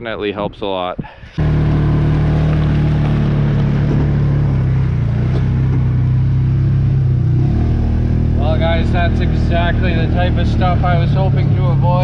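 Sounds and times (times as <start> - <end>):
utility vehicle engine running: 1.4 - 12.0.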